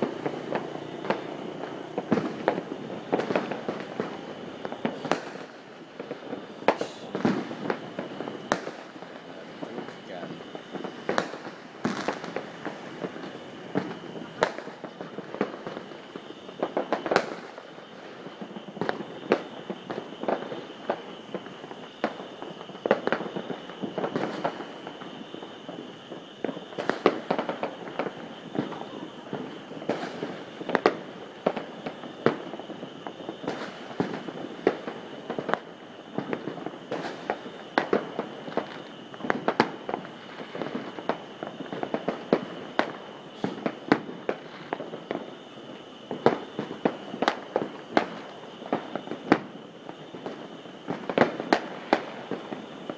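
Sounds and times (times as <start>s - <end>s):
crackle of far-off explosions: 0.0s - 52.9s
distant firework bangs and pops: 0.0s - 52.9s.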